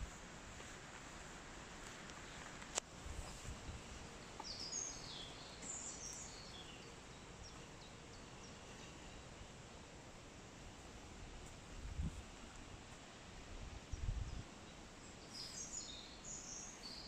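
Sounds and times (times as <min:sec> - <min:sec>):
songbird chirping: 0:00.0 - 0:11.6, 0:13.8 - 0:17.0
steady low hiss: 0:00.0 - 0:17.0.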